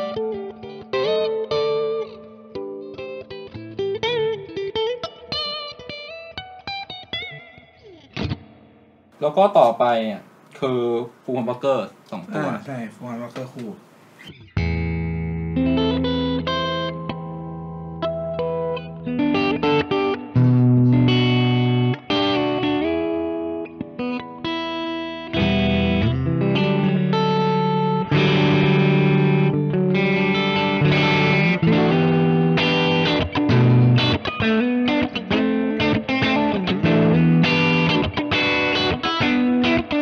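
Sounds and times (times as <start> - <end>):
clean electric guitar: 0.0 - 9.1, 14.2 - 40.0.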